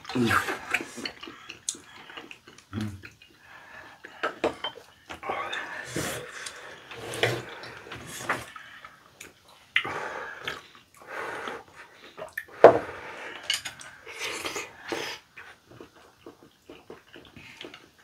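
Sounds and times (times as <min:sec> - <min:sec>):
slurping and chewing: 0:00.0 - 0:18.0.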